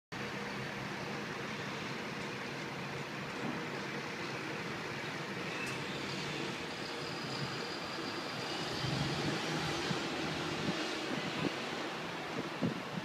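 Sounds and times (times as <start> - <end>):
city traffic din: 0.1 - 13.0.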